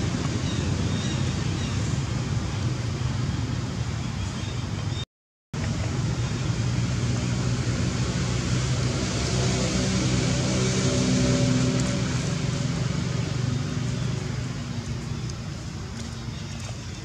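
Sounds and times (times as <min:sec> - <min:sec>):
low rumbling background noise: 0:00.0 - 0:05.0, 0:05.6 - 0:17.0.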